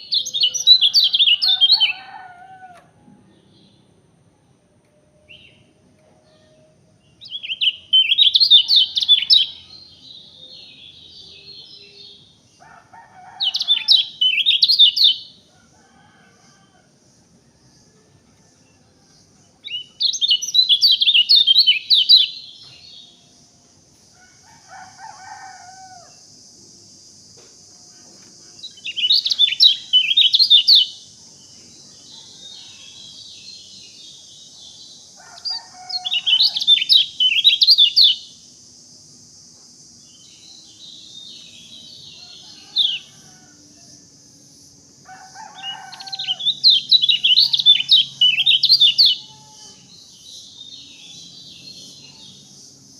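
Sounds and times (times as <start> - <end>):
songbird chirping: 0.0 - 52.9.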